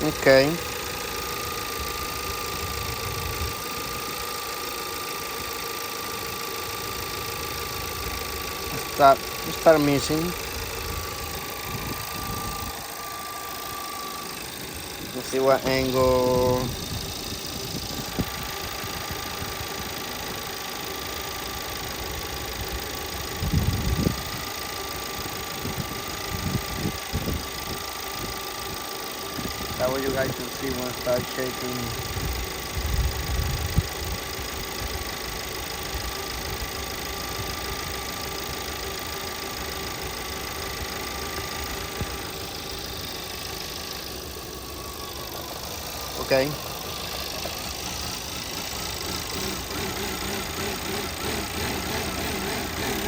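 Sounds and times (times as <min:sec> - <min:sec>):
thin high whine: 0:00.0 - 0:20.4, 0:23.2 - 0:53.0
car engine idling: 0:00.0 - 0:53.0.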